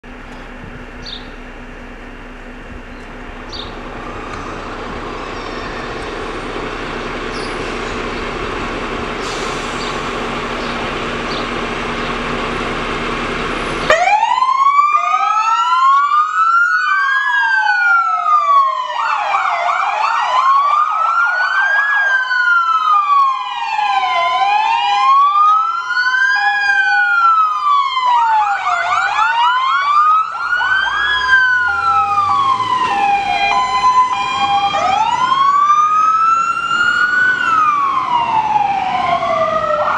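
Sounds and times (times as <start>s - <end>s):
fire engine sirens: 0.0s - 39.9s
fire engines running: 0.0s - 39.9s.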